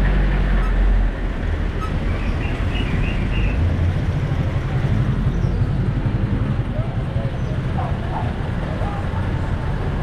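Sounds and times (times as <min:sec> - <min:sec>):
road noise: 0:00.0 - 0:10.0
vehicle engine rumbling: 0:00.0 - 0:10.0.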